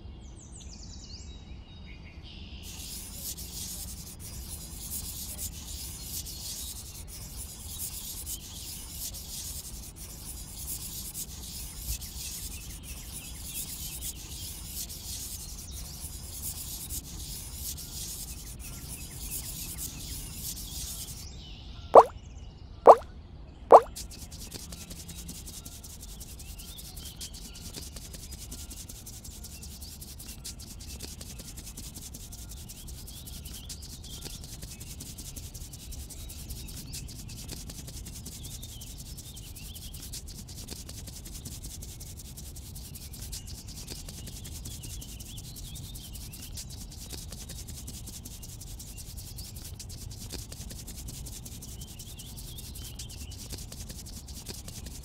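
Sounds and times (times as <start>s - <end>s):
paintbrush rubbing on paper: 2.7s - 21.3s, 23.7s - 55.0s.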